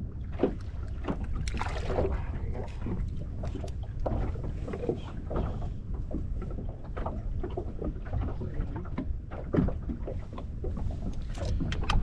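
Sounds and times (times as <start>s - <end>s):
water lapping against boat hull: 0.0s - 12.0s
wind buffeting microphone: 0.0s - 12.0s.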